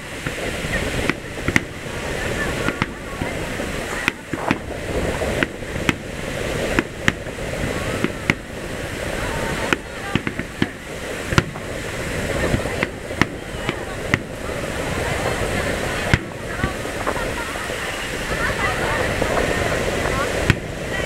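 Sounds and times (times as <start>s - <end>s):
background voices: 0.0s - 21.0s
fireworks bangs: 0.0s - 21.0s.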